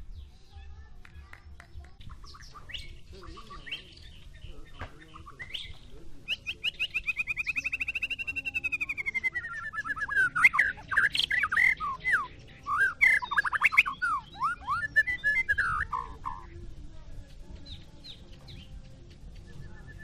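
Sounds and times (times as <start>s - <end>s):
bird singing trills and whistles: 2.0s - 16.6s, 17.3s - 20.0s.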